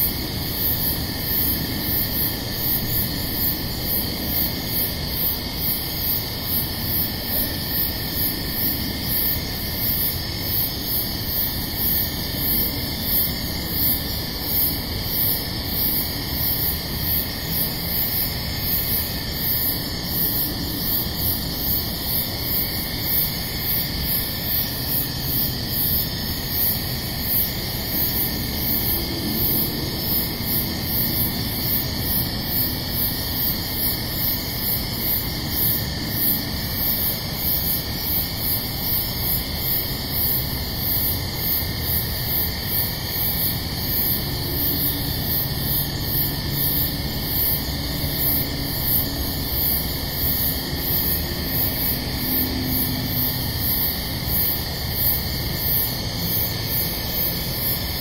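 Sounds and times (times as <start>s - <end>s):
constant hiss: 0.0s - 58.0s
insect chirping: 0.0s - 58.0s.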